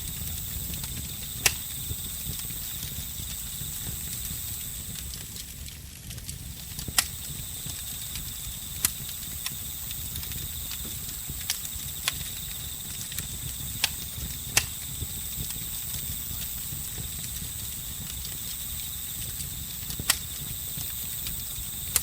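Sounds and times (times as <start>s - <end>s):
campfire crackling: 0.0s - 22.0s
crickets trilling: 0.0s - 22.0s.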